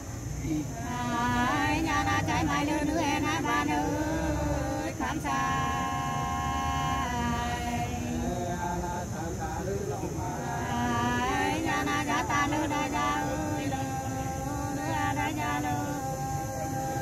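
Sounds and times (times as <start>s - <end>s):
person singing unaccompanied: 0.0s - 17.0s.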